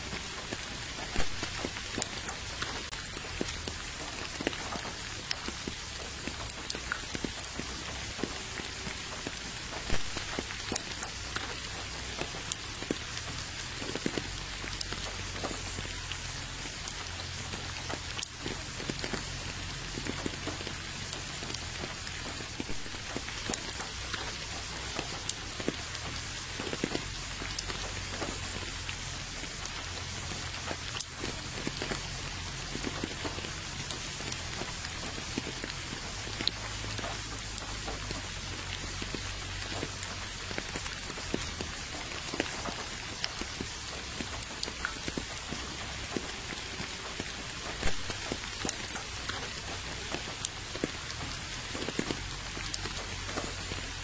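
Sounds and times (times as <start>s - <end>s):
rain falling into puddles: 0.0s - 54.0s.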